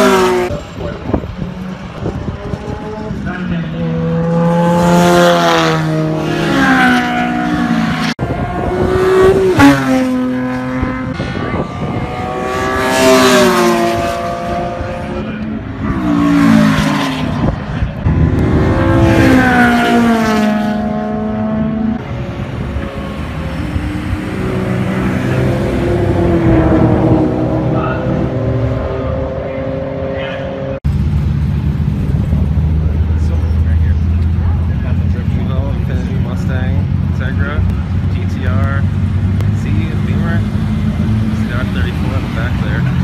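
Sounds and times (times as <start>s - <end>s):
race cars passing at speed: 0.0s - 43.0s.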